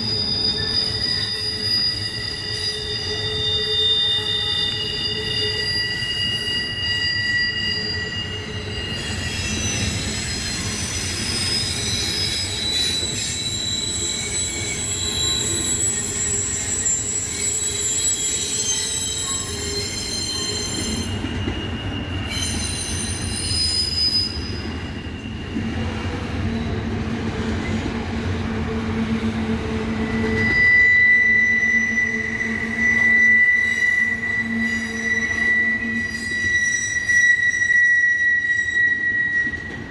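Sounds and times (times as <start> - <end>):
train wheels squealing: 0.0 - 39.9.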